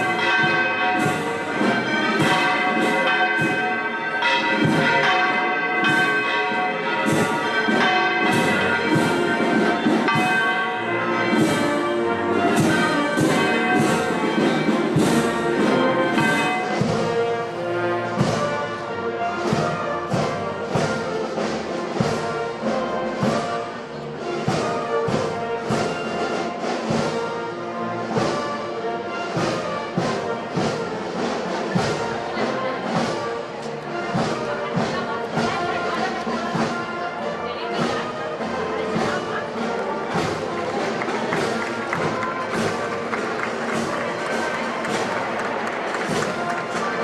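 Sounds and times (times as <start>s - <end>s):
band music: 0.0s - 47.0s
bells ringing: 0.0s - 47.0s.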